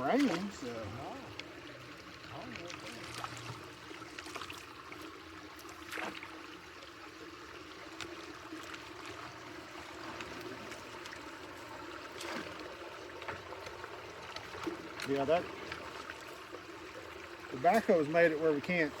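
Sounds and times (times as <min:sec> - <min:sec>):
water trickling through culvert: 0:00.0 - 0:19.0.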